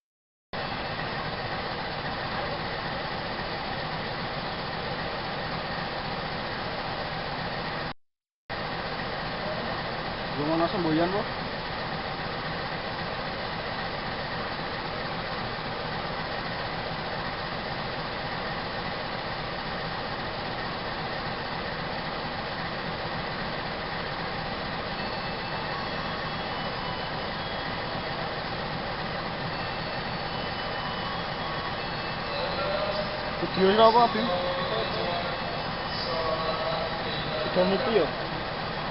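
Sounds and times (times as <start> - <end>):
locomotive diesel engine idling: 0.6 - 38.9.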